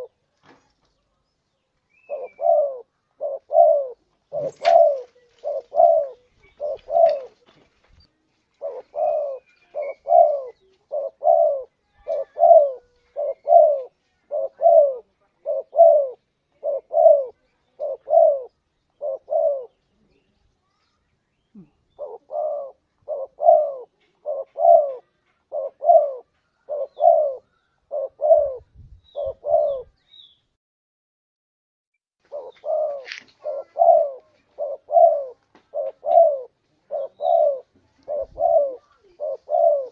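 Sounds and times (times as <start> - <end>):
dove cooing: 0.0 - 0.2, 1.9 - 7.6, 8.6 - 20.2, 21.6 - 30.0, 32.2 - 39.9.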